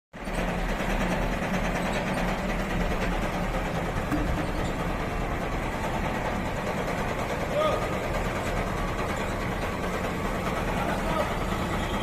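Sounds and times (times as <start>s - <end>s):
heavy vehicle engine idling: 0.2s - 12.0s.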